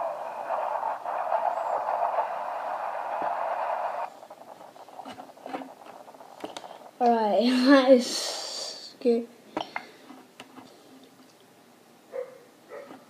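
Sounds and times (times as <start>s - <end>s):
static hiss: 0.0s - 13.0s.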